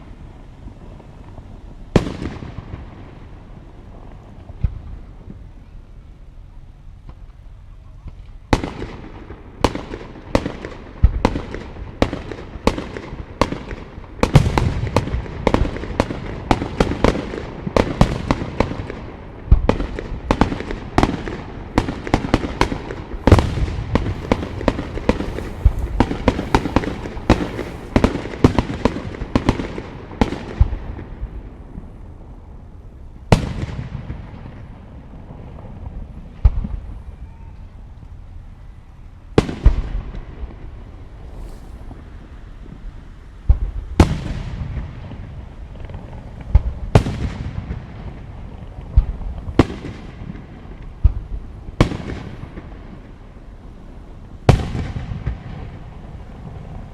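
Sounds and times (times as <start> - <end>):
fireworks bursts and crackles: 0.0 - 5.7, 8.1 - 32.7, 39.3 - 56.9.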